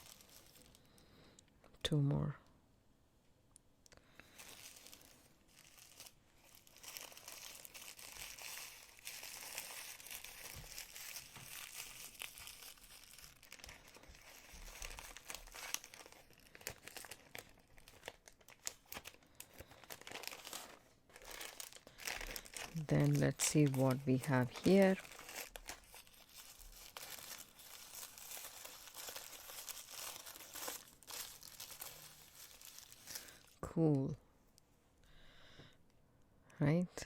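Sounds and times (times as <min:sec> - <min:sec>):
plastic bag crinkling: 0:00.0 - 0:01.1, 0:04.0 - 0:34.0.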